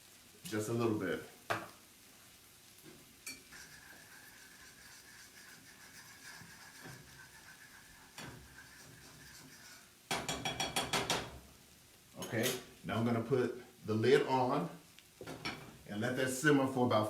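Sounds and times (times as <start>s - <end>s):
food sizzling on stovetop: 0.0s - 17.0s.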